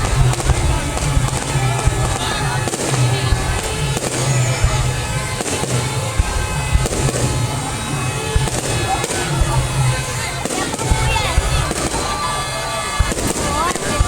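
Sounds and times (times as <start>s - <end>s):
fireworks banging: 0.0s - 14.0s
music playing: 0.0s - 14.0s.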